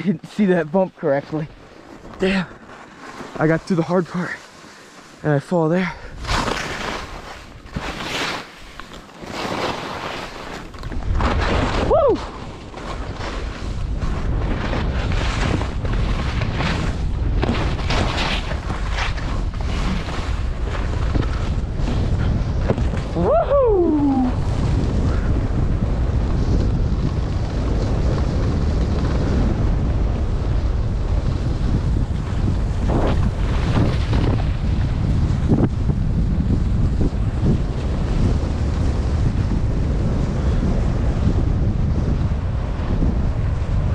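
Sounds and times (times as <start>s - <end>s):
skis scraping over snow: 0.0s - 43.9s
wind rumble on microphone: 0.0s - 43.9s.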